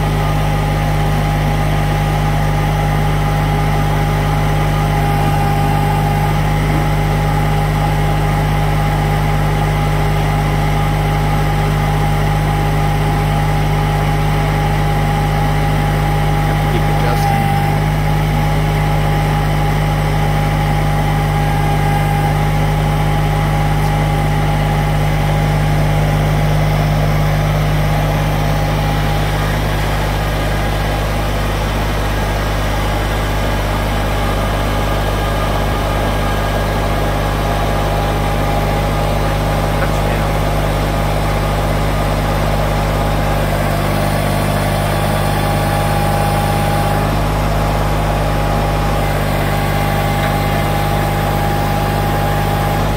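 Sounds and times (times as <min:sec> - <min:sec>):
steady whine: 0:00.0 - 0:52.9
tractor diesel engine running: 0:00.0 - 0:52.9.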